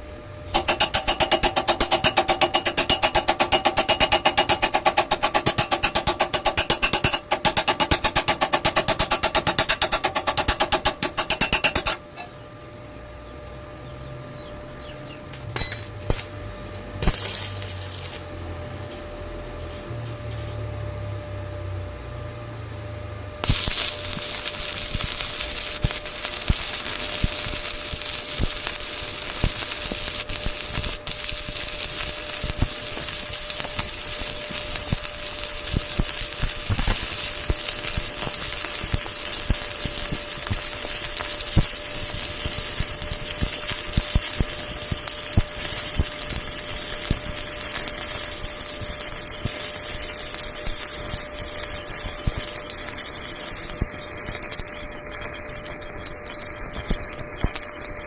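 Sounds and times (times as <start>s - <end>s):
arc welding crackling sizzle: 0.0s - 12.7s, 15.2s - 22.5s, 23.3s - 58.0s.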